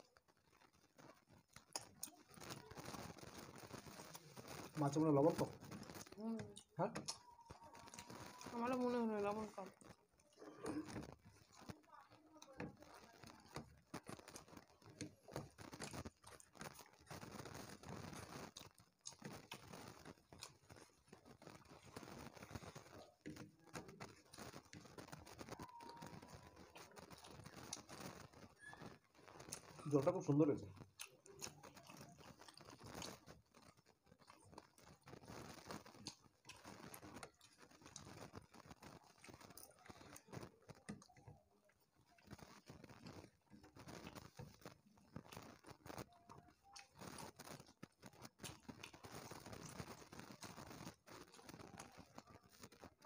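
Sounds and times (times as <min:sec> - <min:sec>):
chewing: 0:00.0 - 0:53.0
fingers squeezing rice: 0:00.0 - 0:53.0.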